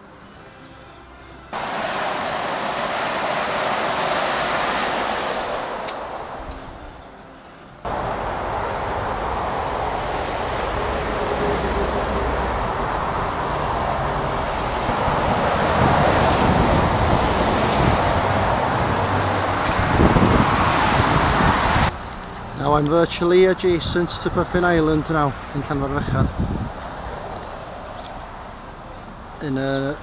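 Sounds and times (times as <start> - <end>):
low traffic rumble: 1.0 - 30.0
road traffic tyre noise: 1.1 - 30.0.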